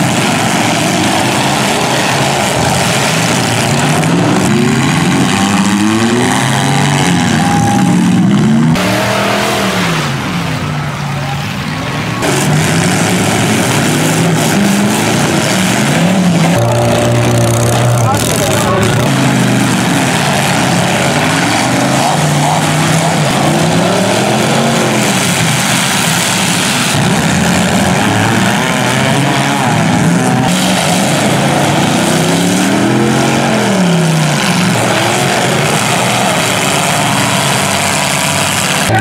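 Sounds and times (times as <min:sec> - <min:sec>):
car engines revving hard: 0:00.0 - 0:39.0.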